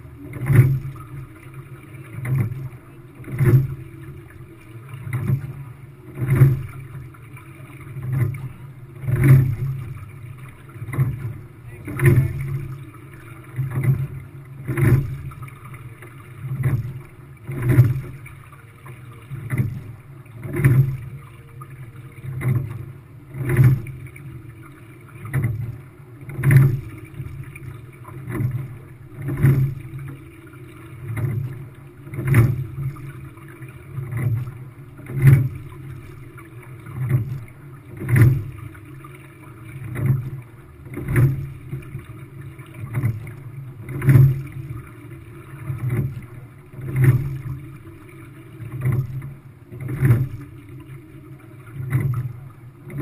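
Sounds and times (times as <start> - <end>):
water rumbling along hull: 0.0 - 53.0
water surging: 0.0 - 53.0.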